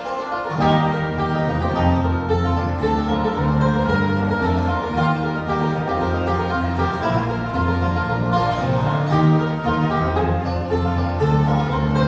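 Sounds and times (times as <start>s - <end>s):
bluegrass band playing: 0.0s - 12.0s.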